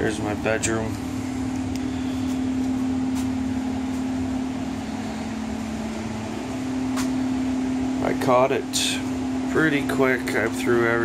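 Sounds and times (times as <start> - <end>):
electric fans running: 0.0 - 11.0.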